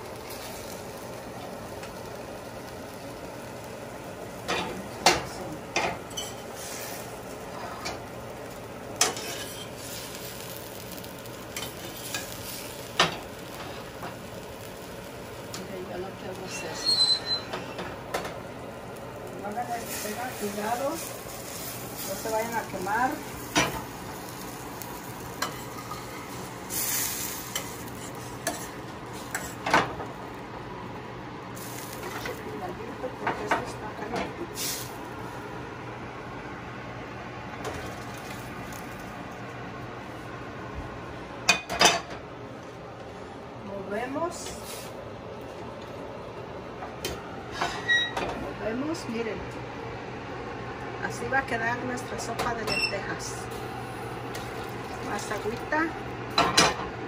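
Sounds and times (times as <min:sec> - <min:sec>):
steady sizzle: 0:00.0 - 0:57.0.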